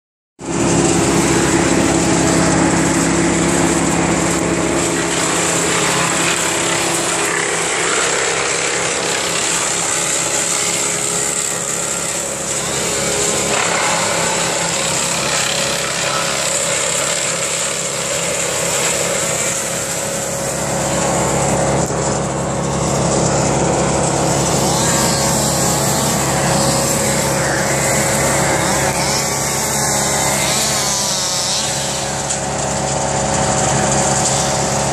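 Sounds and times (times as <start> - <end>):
small gasoline engine running: 0.4 - 34.9.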